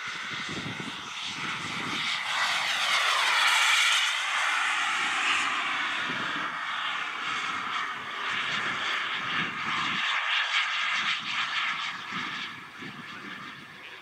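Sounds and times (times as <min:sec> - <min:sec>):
model jet turbine whine: 0:00.0 - 0:14.0.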